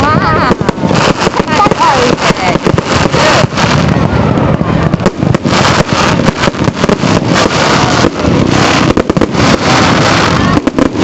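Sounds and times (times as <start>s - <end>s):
fireworks bangs and crackles: 0.0s - 11.0s
loud rumble: 0.0s - 11.0s.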